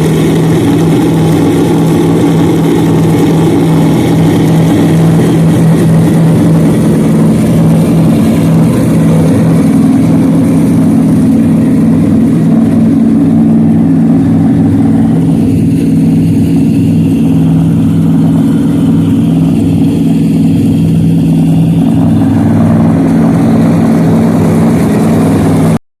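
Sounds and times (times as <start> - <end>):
boat engine idling: 0.0 - 25.8.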